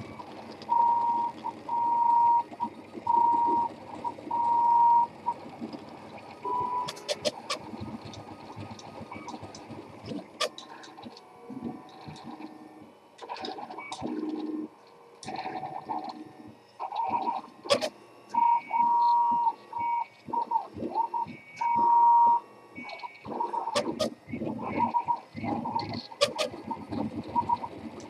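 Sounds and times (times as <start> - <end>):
printer buzzing: 0.0 - 28.0.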